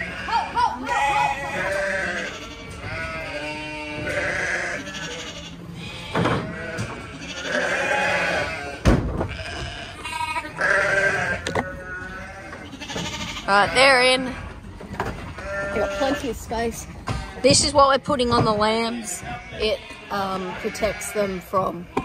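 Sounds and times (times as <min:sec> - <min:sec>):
sheep bleating: 0:00.0 - 0:14.5, 0:15.3 - 0:16.4, 0:19.0 - 0:21.8.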